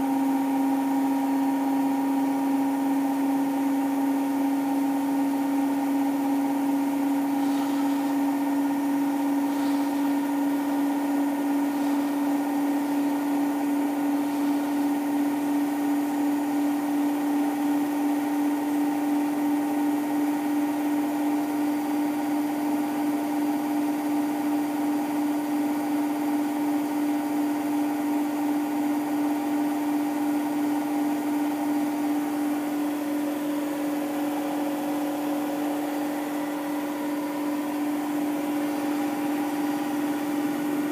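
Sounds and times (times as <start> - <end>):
washing machine spinning whine: 0.0 - 40.9.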